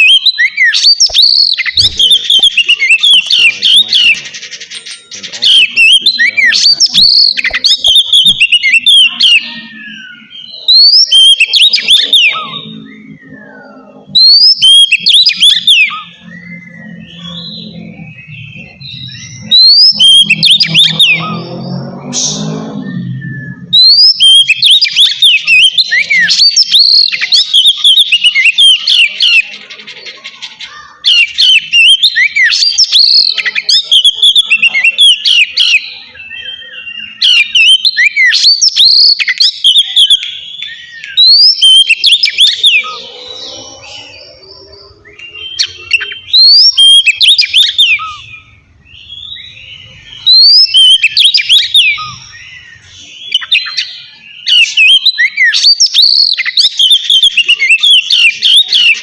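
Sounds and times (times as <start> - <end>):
bird singing whistled phrases: 0.0 - 29.5, 30.6 - 59.0.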